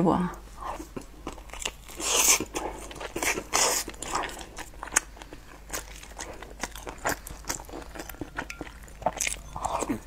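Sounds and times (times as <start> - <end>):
person chewing food: 0.6 - 10.0.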